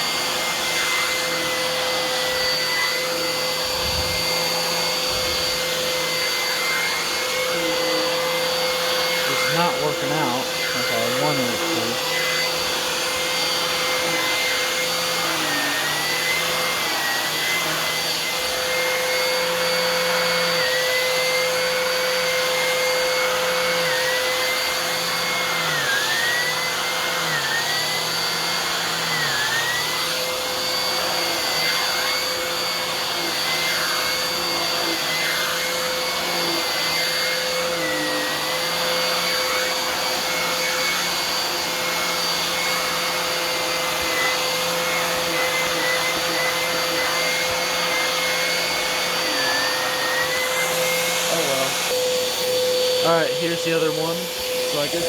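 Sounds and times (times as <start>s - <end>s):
upright vacuum cleaner whining: 0.0s - 55.0s.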